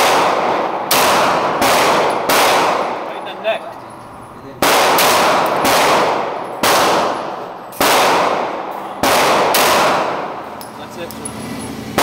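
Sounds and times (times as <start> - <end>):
pistol shots in indoor range: 0.0 - 3.2, 4.6 - 12.0.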